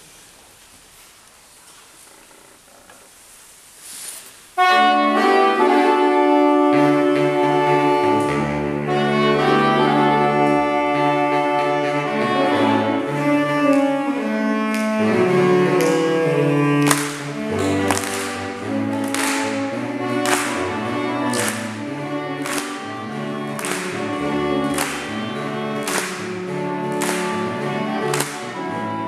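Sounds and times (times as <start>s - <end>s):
saxophones playing sustained chords: 4.6s - 29.0s.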